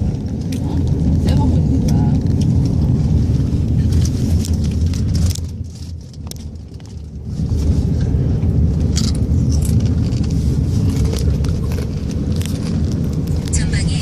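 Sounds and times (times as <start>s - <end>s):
car cabin driving rumble: 0.0s - 14.0s.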